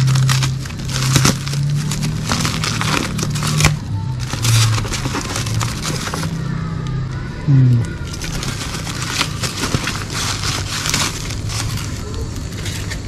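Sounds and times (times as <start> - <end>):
styrofoam rubbing: 0.0 - 6.9, 7.9 - 13.0
plastic wrapping crinkling: 0.0 - 13.0.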